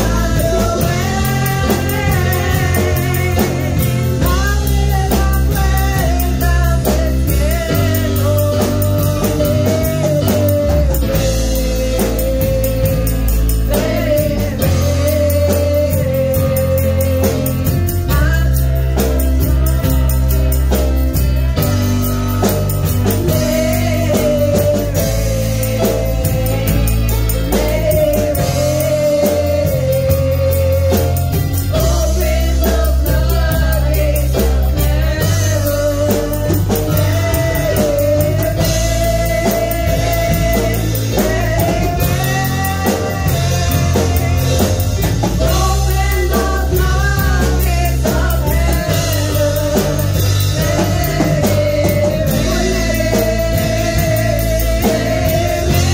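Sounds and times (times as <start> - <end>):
live band playing: 0.0 - 55.9
women singing through microphones: 0.0 - 55.9.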